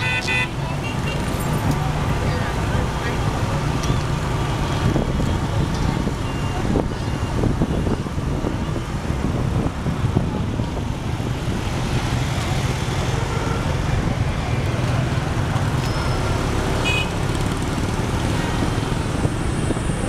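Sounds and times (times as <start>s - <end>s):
motorbike traffic rumble: 0.0s - 20.0s.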